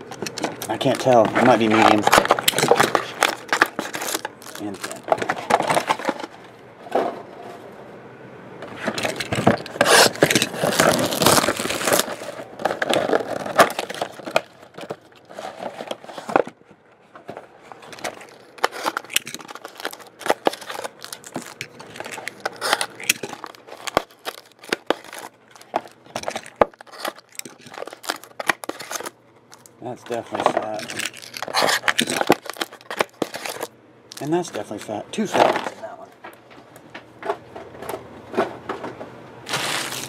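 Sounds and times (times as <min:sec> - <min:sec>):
foil packs crinkling: 0:00.0 - 0:06.3, 0:08.8 - 0:16.6, 0:17.4 - 0:36.0, 0:39.4 - 0:40.0
packs tapping and scraping: 0:00.0 - 0:06.3, 0:08.8 - 0:35.8, 0:37.3 - 0:40.0.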